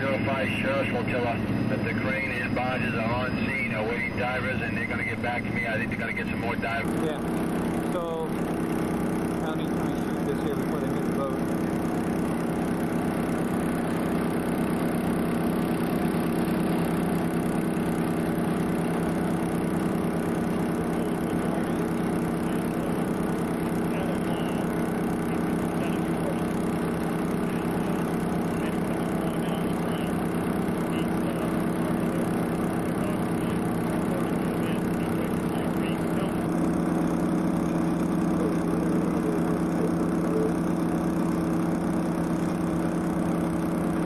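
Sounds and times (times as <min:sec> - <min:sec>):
outboard motors idling: 0:00.0 - 0:44.0.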